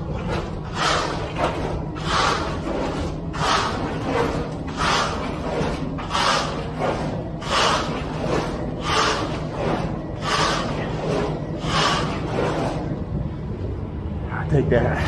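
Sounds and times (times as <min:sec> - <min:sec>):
board scraping across wet concrete: 0:00.7 - 0:12.8.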